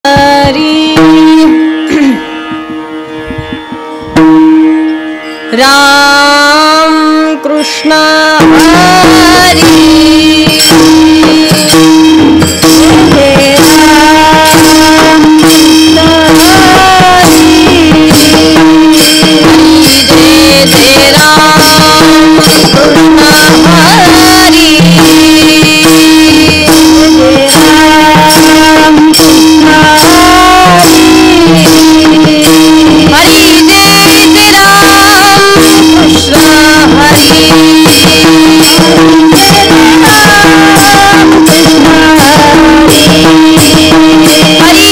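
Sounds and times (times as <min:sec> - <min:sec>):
woman singing: 0:00.0 - 0:02.2, 0:05.5 - 0:44.9
hand drum strokes: 0:00.1 - 0:44.9
jingling small cymbals: 0:04.2 - 0:44.9.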